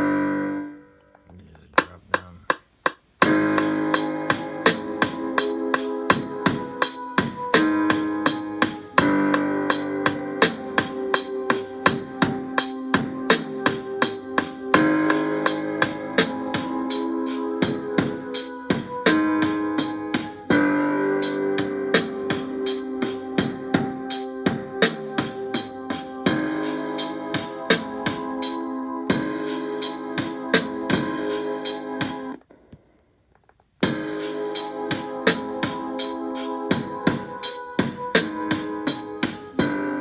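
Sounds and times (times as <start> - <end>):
keyboard chords: 0.0 - 32.5, 33.8 - 40.0.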